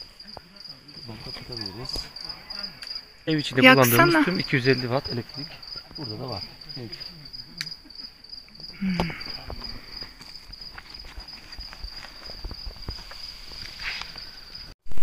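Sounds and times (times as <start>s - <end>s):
crickets chirping: 0.0s - 14.8s.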